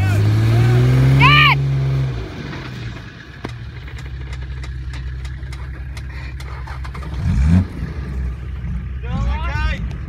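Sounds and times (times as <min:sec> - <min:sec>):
engine running under load: 0:00.0 - 0:10.0.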